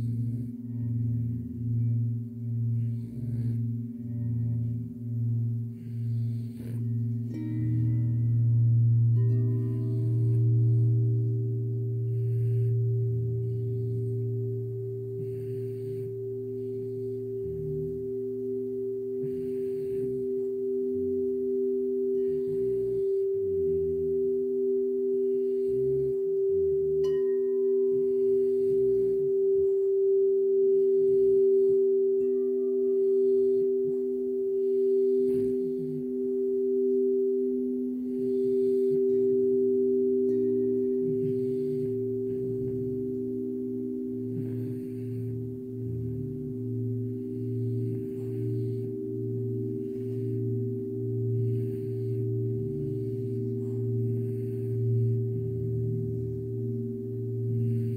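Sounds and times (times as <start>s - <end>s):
crystal singing bowls ringing: 0.0s - 57.9s.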